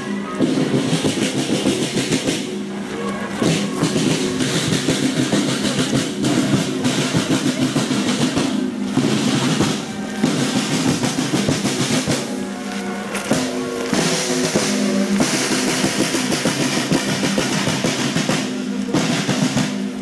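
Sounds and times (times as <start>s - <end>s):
low brass notes: 0.0s - 20.0s
snare and bass drums marching: 0.0s - 20.0s.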